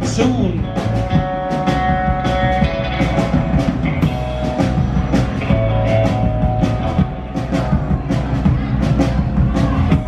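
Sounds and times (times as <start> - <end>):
drum-kit beat: 0.0 - 10.0
electric guitar: 0.0 - 10.0
live rock band playing: 0.0 - 10.0.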